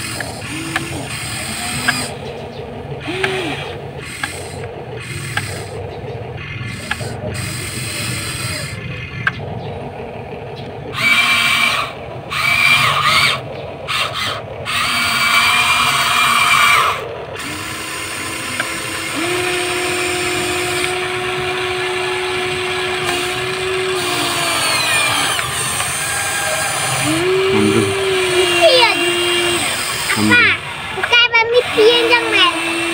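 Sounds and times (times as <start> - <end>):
toy excavator motors whining: 0.0 - 32.9.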